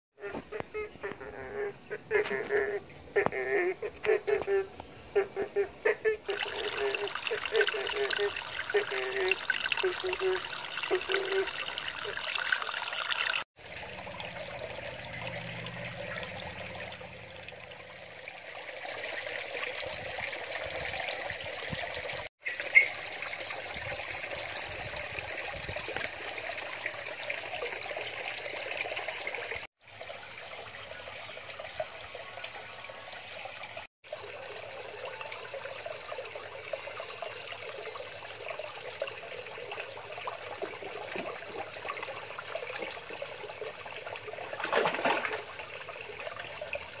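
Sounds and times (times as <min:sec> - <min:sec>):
water trickling and splashing: 0:00.2 - 0:47.0.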